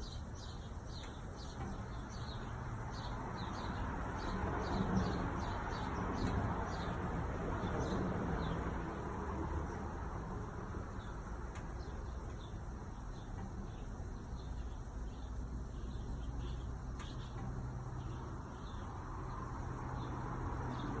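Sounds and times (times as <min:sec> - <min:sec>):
gas water heater burner rumble: 0:00.2 - 0:19.8.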